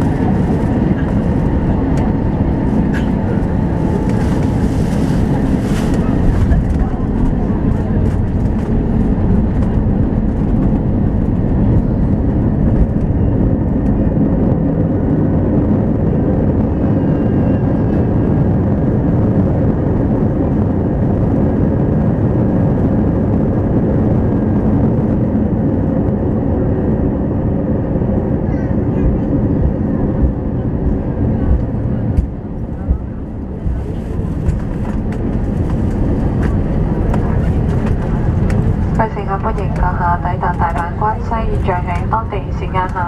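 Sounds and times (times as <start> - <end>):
engines and wheels rumbling in cabin: 0.0 - 43.0.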